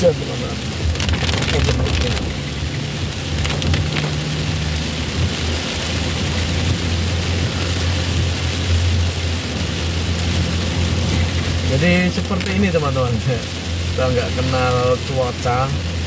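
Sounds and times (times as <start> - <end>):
heavy rain on vehicle roof: 0.0 - 16.0
van engine humming: 0.0 - 16.0.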